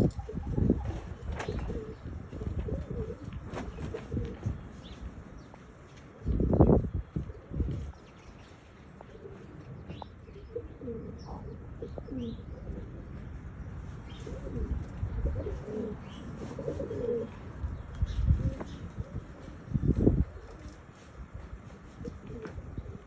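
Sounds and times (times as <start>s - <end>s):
pigeons cooing: 0.0s - 5.0s, 6.0s - 23.0s.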